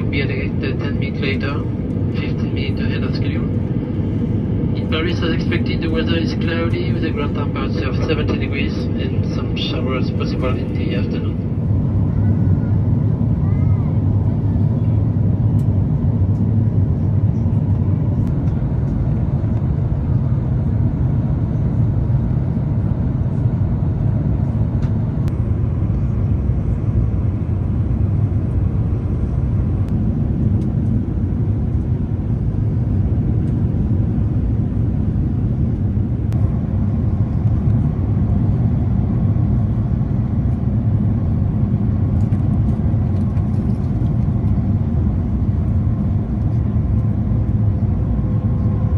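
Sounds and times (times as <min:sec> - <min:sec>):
airplane cabin drone: 0:00.0 - 0:48.9.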